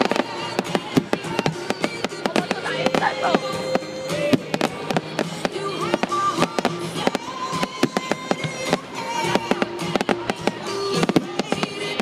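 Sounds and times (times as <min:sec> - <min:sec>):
fireworks bangs and crackles: 0:00.0 - 0:12.0
music holding long notes: 0:00.0 - 0:12.0.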